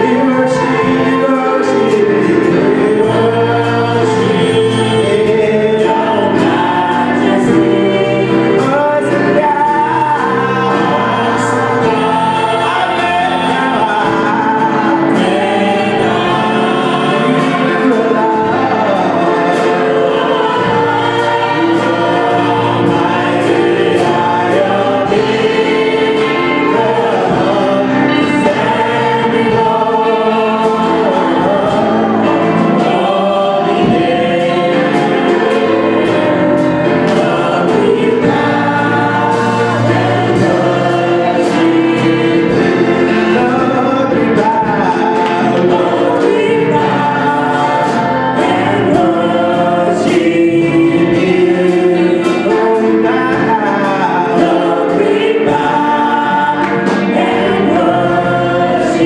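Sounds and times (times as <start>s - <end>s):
gospel choir singing: 0.0s - 59.0s
live band with drums and cymbals: 0.0s - 59.0s.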